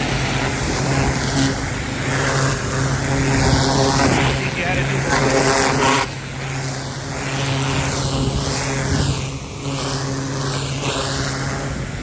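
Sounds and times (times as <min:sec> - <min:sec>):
pressure washer motor hum: 0:00.0 - 0:12.0
water jet hissing: 0:00.0 - 0:12.0.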